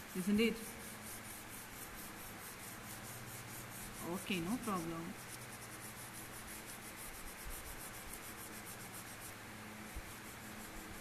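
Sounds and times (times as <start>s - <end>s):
oil pastel scratching on paper: 0.0s - 11.0s.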